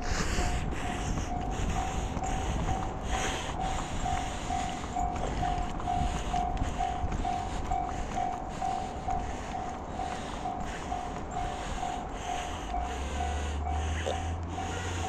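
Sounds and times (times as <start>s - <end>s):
level crossing alarm ringing: 0.4s - 15.0s.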